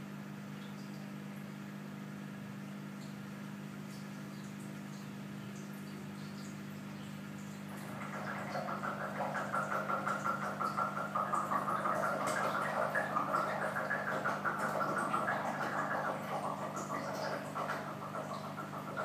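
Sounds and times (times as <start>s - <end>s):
aquarium equipment hum: 0.0s - 19.0s.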